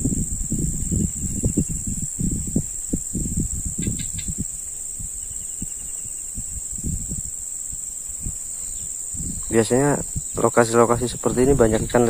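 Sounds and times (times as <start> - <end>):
insects droning: 0.0 - 12.0
wind buffeting microphone: 0.0 - 12.0.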